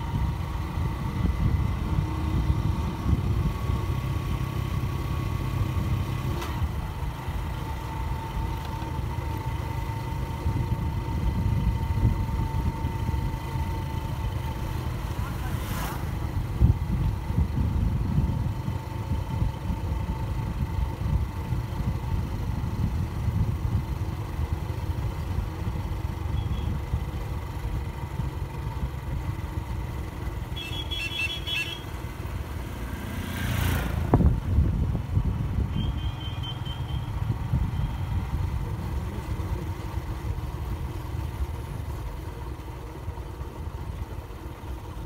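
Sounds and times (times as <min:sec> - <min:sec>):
motorcycle engine rumble: 0:00.0 - 0:45.0.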